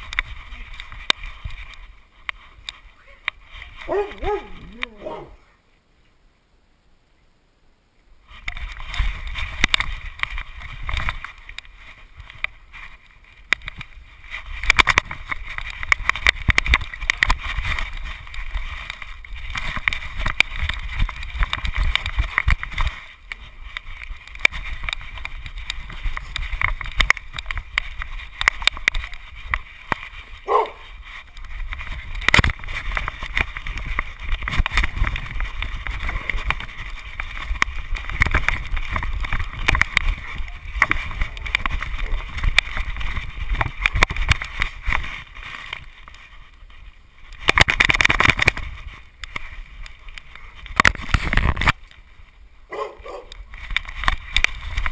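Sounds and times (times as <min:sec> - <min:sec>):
camera rubbing and rattling: 0:00.0 - 0:05.3, 0:08.2 - 0:54.9.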